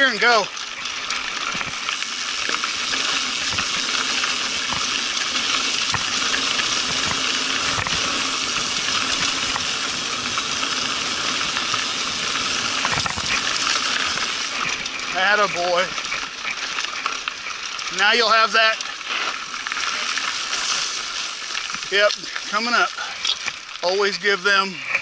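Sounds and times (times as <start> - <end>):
bike clicks and rattles: 0.0 - 25.0
tyres hissing on gravel: 0.0 - 25.0.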